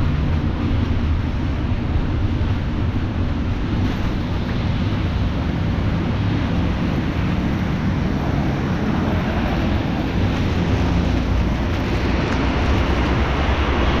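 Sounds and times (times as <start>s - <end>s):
rain rushing noise: 0.0s - 14.0s
wet road noise: 0.0s - 14.0s
wind on microphone: 0.0s - 14.0s.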